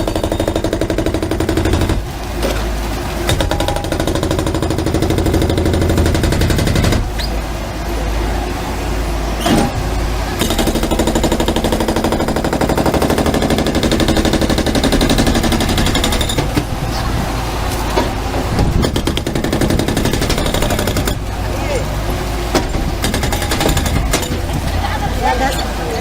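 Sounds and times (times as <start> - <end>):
heavy machinery pounding rattle: 0.0 - 7.5, 9.4 - 25.8
low machinery rumble: 0.0 - 26.0.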